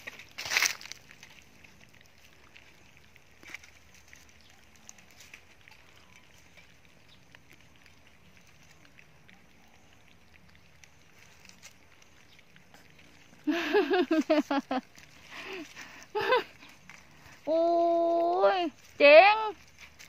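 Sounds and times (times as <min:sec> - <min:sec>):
puppies eating from metal bowl: 0:00.0 - 0:20.0.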